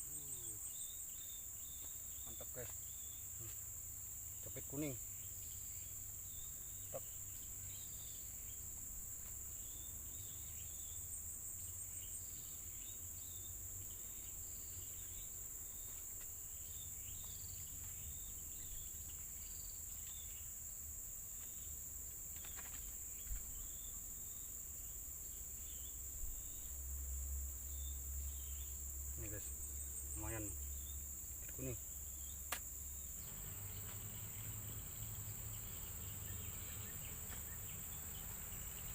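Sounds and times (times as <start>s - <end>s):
insects shrilling: 0.0s - 38.9s.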